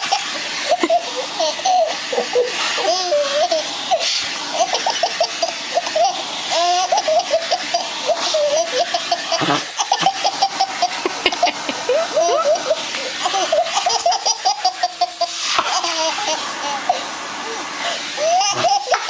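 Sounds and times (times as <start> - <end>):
baby laughing: 0.0 - 19.0.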